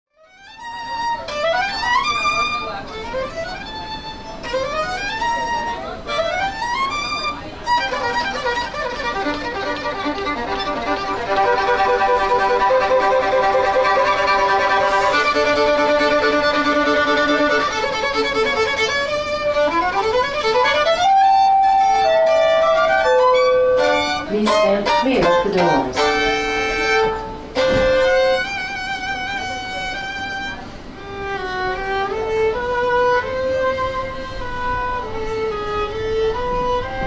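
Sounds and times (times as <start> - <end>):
solo violin melody: 0.1 - 37.0.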